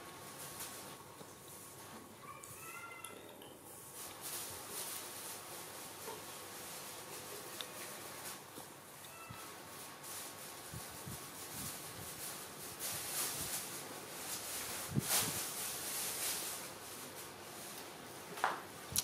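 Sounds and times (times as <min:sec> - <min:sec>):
animals scuffling and rustling: 0:00.0 - 0:18.9.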